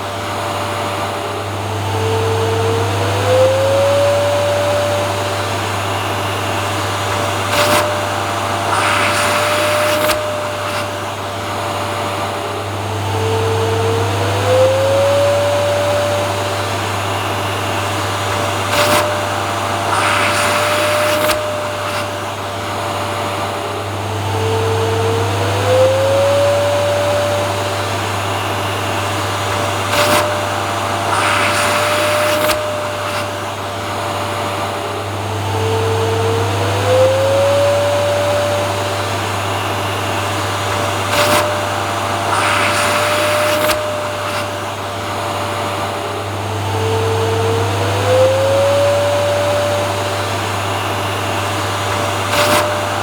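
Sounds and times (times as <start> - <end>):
rush of hissing air: 0.0 - 53.0
vacuum cleaner running: 0.0 - 53.0.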